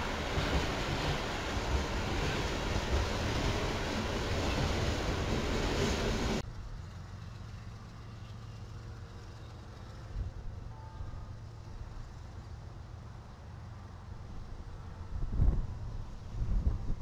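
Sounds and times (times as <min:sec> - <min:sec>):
freight cars rolling on rails: 0:00.0 - 0:13.9
diesel locomotive rumble: 0:00.0 - 0:17.0.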